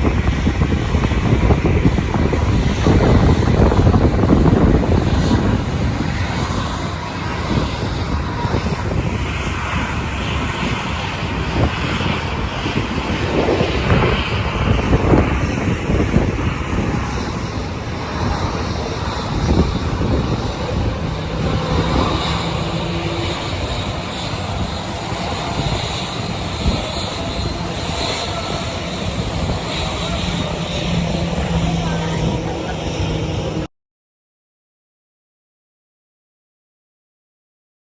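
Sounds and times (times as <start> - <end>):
jet engines running: 0.0 - 33.7
wind rumble on microphone: 0.0 - 33.7.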